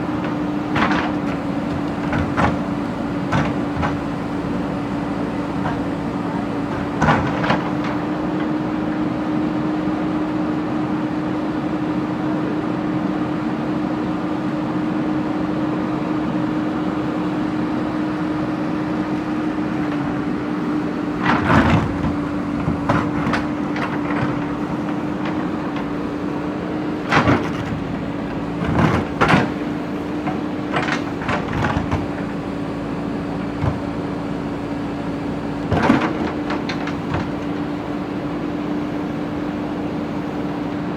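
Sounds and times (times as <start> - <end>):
diesel engine running: 0.0 - 9.3, 15.9 - 40.9.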